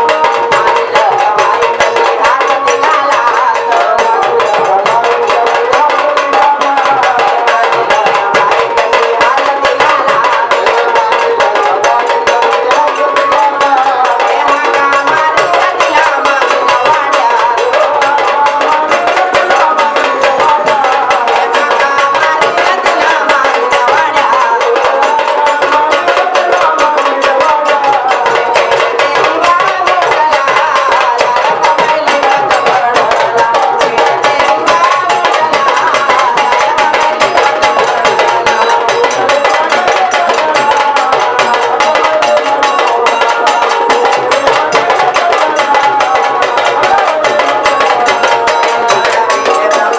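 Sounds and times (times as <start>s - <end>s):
fast steady drumming: 0.0s - 49.9s
person singing: 0.0s - 49.9s.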